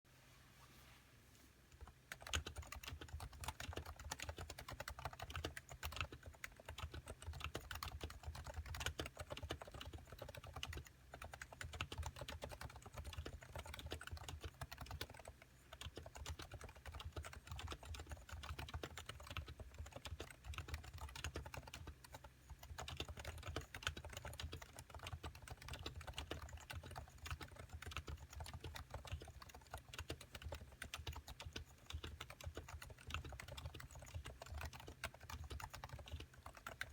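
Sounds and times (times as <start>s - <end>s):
fast typing on keyboard: 1.8s - 36.9s.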